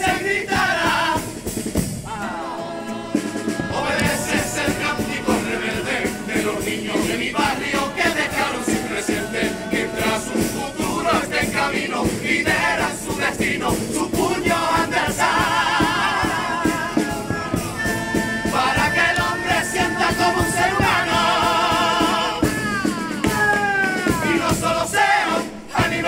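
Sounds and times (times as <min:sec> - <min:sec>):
men's choir singing in harmony: 0:00.0 - 0:26.0
percussion beat: 0:00.0 - 0:26.0.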